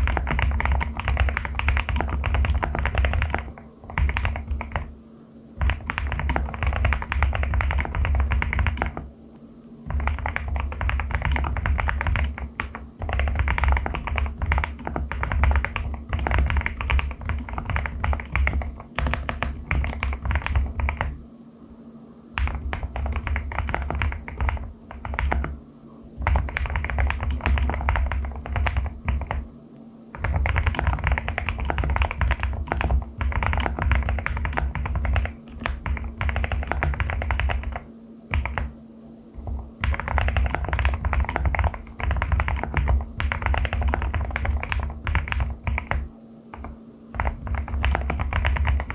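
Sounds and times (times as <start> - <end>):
fast typing on mechanical keyboard: 0.0 - 4.9, 5.6 - 9.1, 9.9 - 21.2, 22.4 - 25.6, 26.2 - 29.5, 30.2 - 38.8, 39.4 - 48.9.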